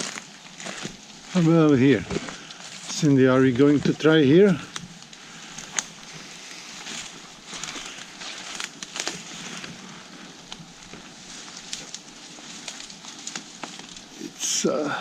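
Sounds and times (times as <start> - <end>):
twigs snapping: 0.0 - 14.4
footsteps rustling through brush: 0.0 - 15.0.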